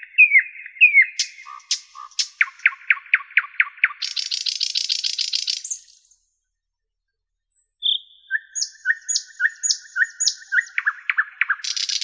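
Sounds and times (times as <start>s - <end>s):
nightingale singing: 0.0s - 6.3s, 7.5s - 12.0s.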